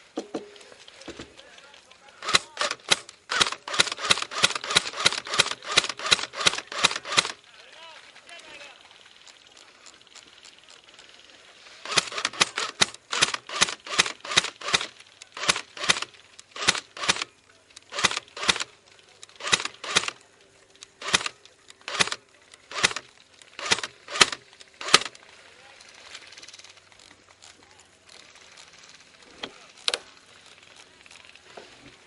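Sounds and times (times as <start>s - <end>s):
loose gear rattling: 0.0s - 7.4s, 8.2s - 32.0s.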